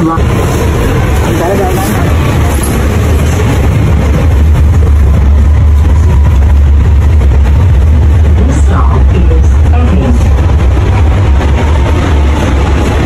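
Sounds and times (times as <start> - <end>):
rushing noise: 0.0 - 13.0
train low rumble: 0.0 - 13.0.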